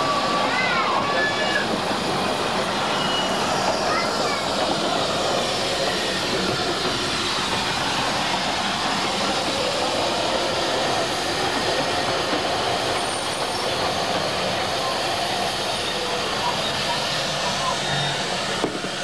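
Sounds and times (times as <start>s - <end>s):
steam train wheels on rail: 0.0s - 19.0s.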